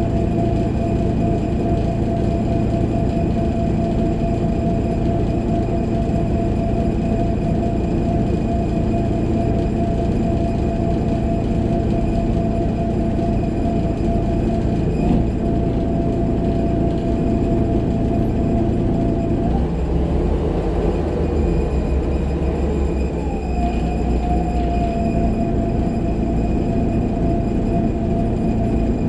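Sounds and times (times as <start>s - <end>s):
bus drivetrain whine: 0.0s - 29.0s
bus engine rumble: 0.0s - 29.0s.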